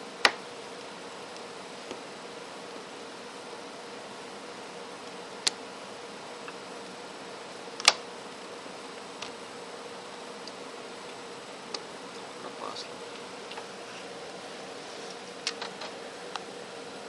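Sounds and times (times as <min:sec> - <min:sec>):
faint hum: 0:00.0 - 0:17.0
steady hiss: 0:00.0 - 0:17.0.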